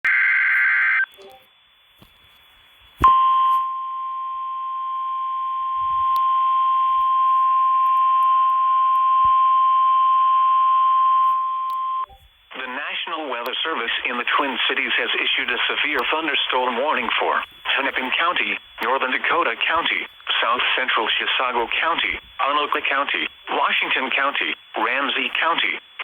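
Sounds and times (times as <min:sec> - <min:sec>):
faint radio hiss: 0:00.1 - 0:26.0
steady alarm tone: 0:03.0 - 0:26.0.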